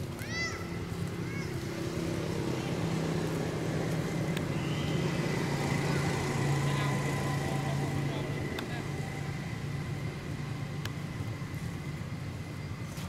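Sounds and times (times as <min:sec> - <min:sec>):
engine running with low drone: 0:00.0 - 0:13.0.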